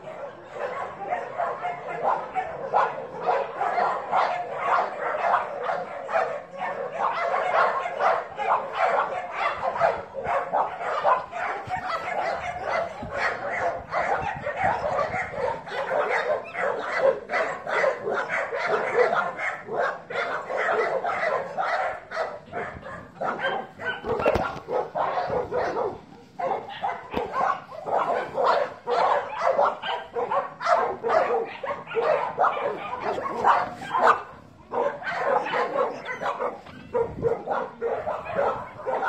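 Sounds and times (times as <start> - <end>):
dog barking and yipping: 0.0 - 39.0.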